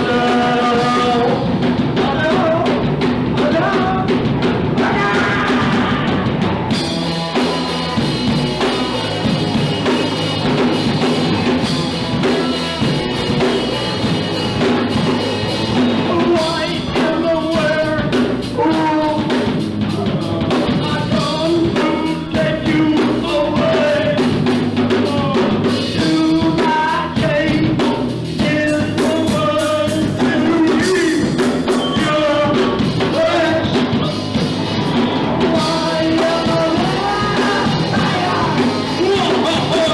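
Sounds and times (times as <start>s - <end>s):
singer's voice: 0.0s - 6.7s, 11.5s - 13.8s, 15.7s - 39.9s
punk rock band playing live: 0.0s - 39.9s.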